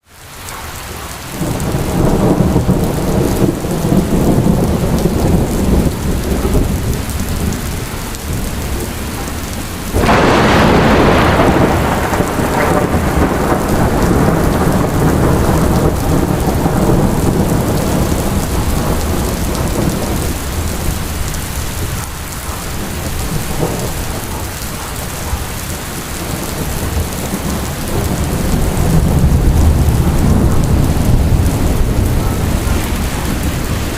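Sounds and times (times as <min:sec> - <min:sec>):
heavy rain: 0:00.0 - 0:33.9
thunderclap: 0:01.4 - 0:33.9.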